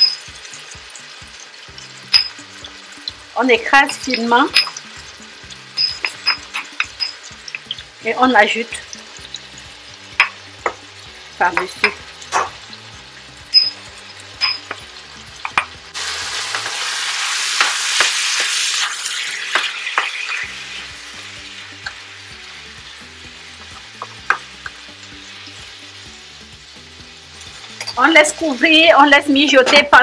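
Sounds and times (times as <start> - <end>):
meat and onions frying in oil: 0.0 - 30.0.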